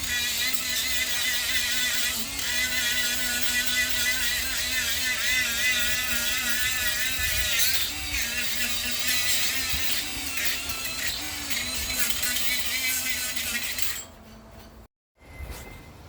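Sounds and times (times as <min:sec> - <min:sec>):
power tool motor running: 0:00.0 - 0:14.3.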